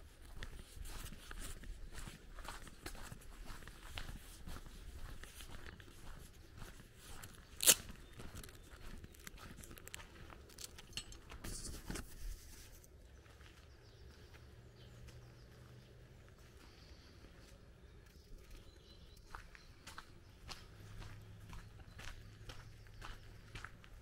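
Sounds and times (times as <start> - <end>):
footsteps crunching on gravel: 0.2 - 16.9, 19.2 - 24.0.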